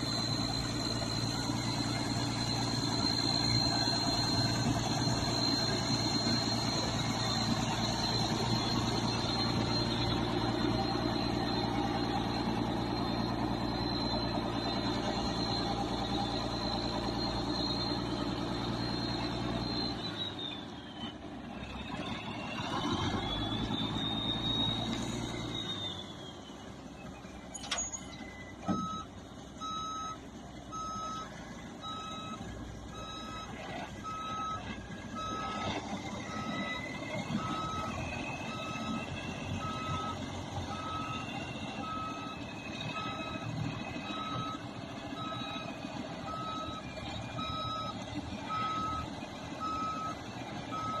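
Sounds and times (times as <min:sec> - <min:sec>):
truck backup alarm beeping: 0:00.0 - 0:51.0
truck engine running: 0:00.0 - 0:51.0.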